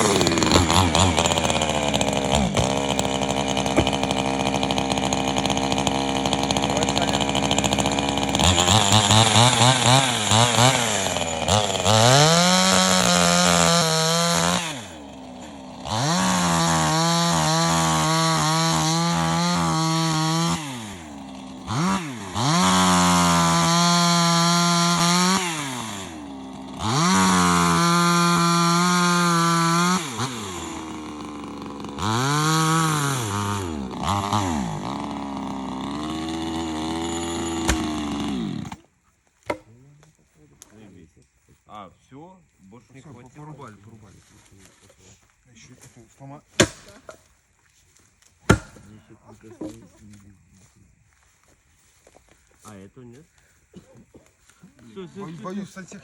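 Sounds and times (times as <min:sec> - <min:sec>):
chainsaw cutting firewood: 0:00.0 - 0:40.8, 0:45.8 - 0:50.2, 0:54.1 - 0:56.0.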